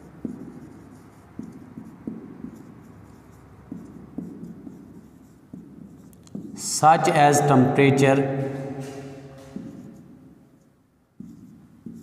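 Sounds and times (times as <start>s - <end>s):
marker pen scratching on whiteboard: 0.0s - 12.0s.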